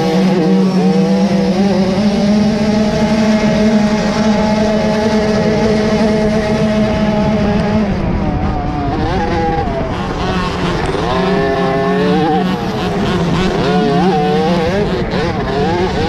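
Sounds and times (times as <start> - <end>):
motocross bikes revving: 0.0 - 16.0.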